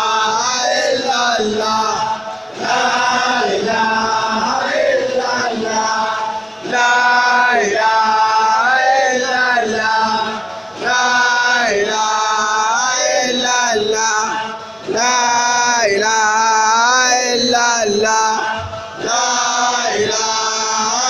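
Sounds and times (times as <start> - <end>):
men chanting melodic phrases: 0.0 - 21.0.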